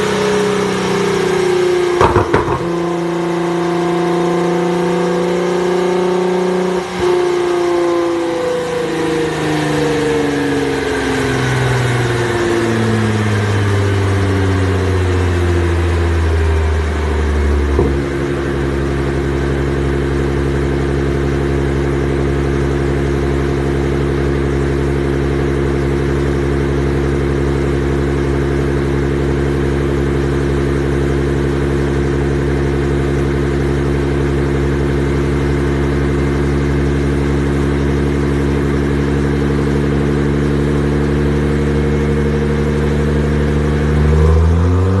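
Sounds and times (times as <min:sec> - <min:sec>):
car engine droning: 0:00.0 - 0:45.0.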